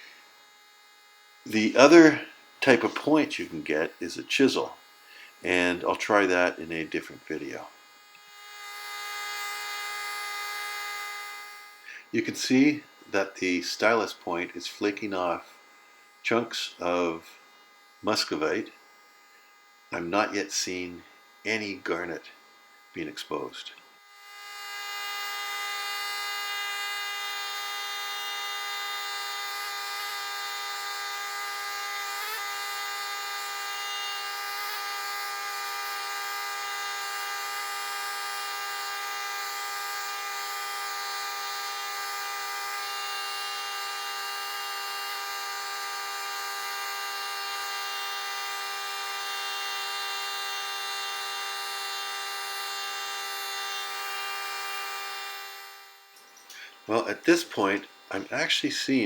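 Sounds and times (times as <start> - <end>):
pneumatic air scribe buzzing on rock: 0.0 - 59.0.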